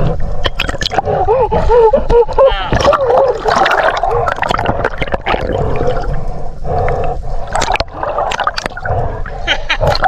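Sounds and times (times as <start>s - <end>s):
water sloshing and gurgling: 0.0s - 10.0s.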